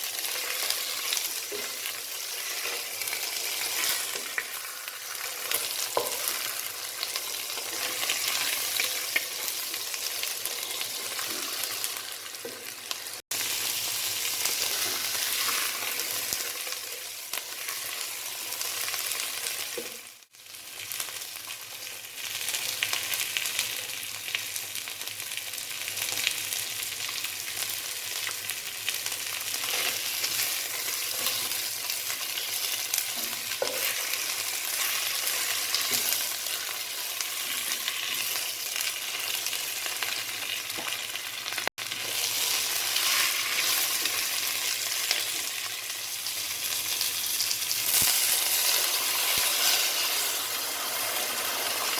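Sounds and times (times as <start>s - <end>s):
food sizzling in hot oil: 0.0s - 51.9s.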